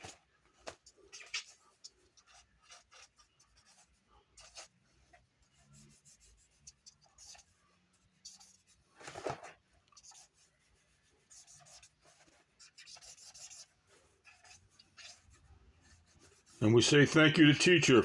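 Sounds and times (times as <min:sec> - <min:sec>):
paper rubbing: 0:00.0 - 0:18.0
pen scratching on paper: 0:00.0 - 0:18.0.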